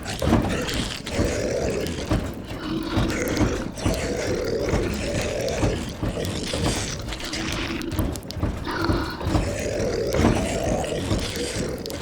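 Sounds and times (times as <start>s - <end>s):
zombie moans and growls: 0.0s - 12.0s.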